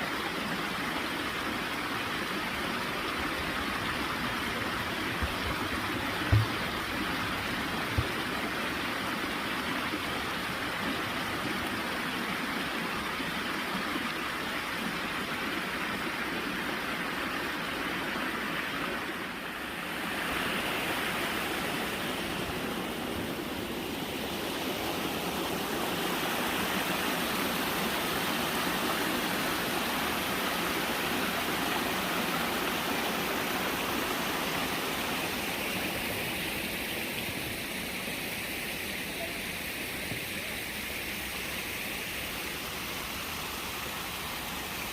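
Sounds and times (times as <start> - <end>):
water flowing over stones: 0.0 - 44.9.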